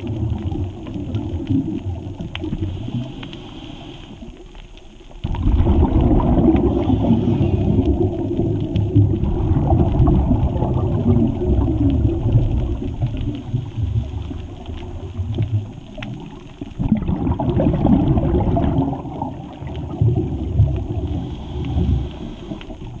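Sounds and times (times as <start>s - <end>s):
bubbles gurgling: 0.0s - 3.1s, 5.2s - 23.0s
muffled underwater rumble: 0.0s - 23.0s.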